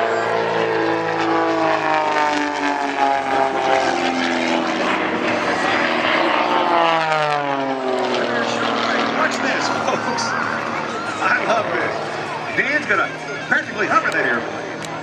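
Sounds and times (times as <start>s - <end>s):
propeller airplane engine passing by: 0.0s - 15.0s.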